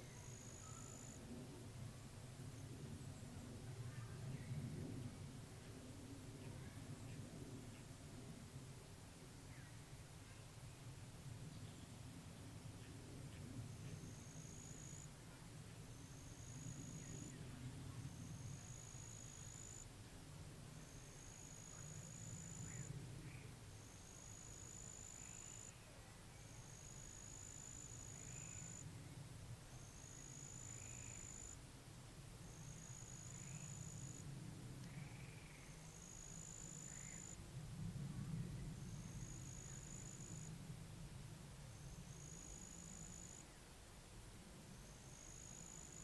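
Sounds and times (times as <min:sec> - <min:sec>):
low wind rumble: 0:00.0 - 0:24.3, 0:25.8 - 0:45.1.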